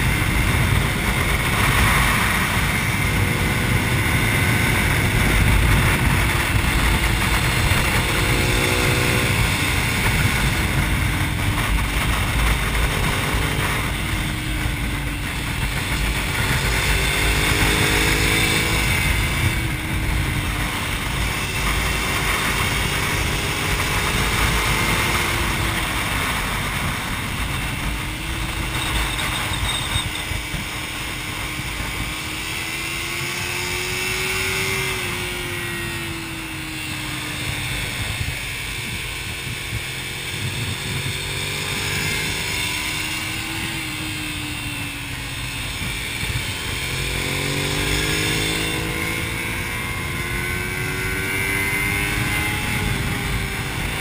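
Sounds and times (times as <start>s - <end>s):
motorcycle engine running hard: 0.0s - 54.0s
wind rumble on microphone: 0.0s - 54.0s.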